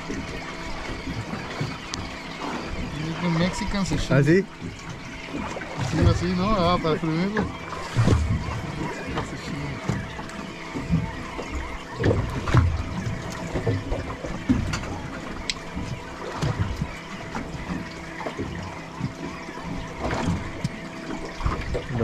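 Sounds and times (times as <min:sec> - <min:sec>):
water slapping against boat hull: 0:00.0 - 0:22.0.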